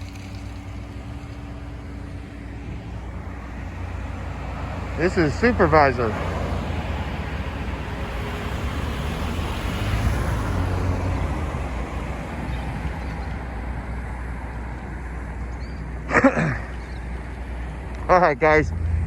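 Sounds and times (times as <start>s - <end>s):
vehicle passing: 0.0s - 15.4s, 16.6s - 19.0s
road traffic noise: 0.0s - 19.0s.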